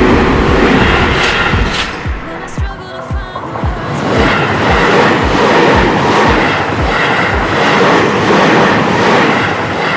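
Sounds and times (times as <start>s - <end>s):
electric train passing at speed: 0.0s - 9.9s.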